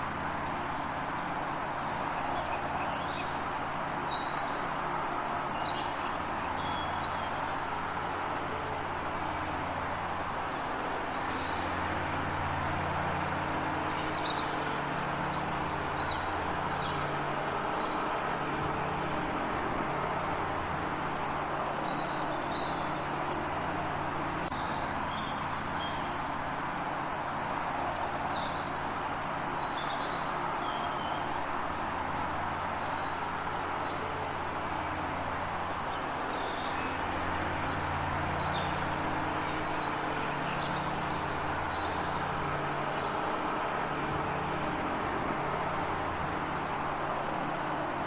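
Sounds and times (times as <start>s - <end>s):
road traffic drone: 0.0s - 48.0s.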